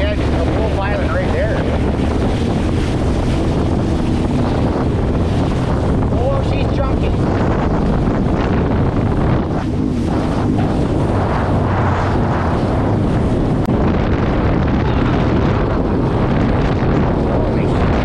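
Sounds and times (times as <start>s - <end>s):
rushing water: 0.0s - 18.0s
watercraft engine drone: 0.0s - 18.0s
wind on microphone: 0.0s - 18.0s.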